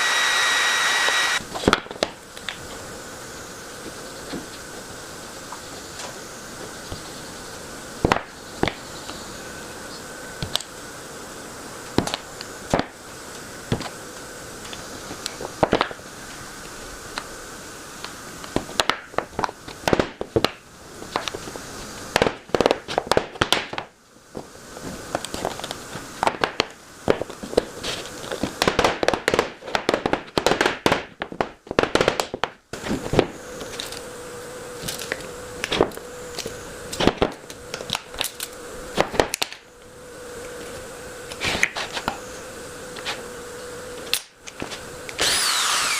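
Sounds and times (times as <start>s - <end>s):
faint steady hum: 0.0s - 29.8s, 32.5s - 45.9s.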